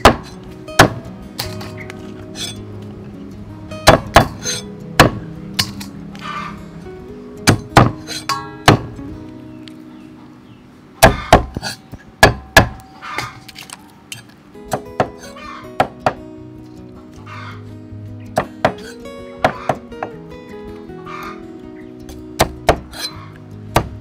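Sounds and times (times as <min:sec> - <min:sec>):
background music: 0:00.0 - 0:13.0, 0:14.5 - 0:24.0.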